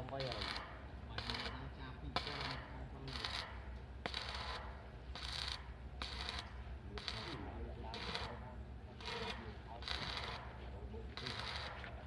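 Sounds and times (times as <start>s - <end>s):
scraping strokes on metal: 0.0s - 12.0s
steady low hum: 0.0s - 12.0s.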